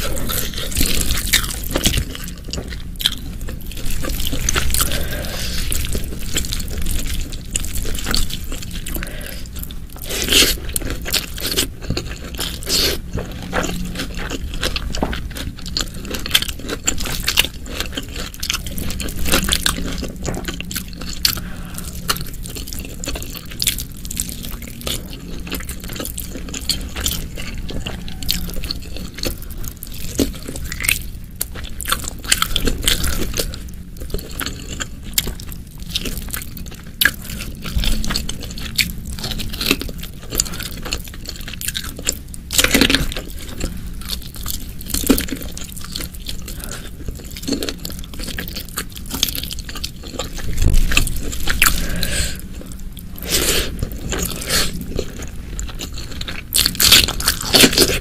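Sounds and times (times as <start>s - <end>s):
wet chewing with crunches: 0.0s - 58.0s.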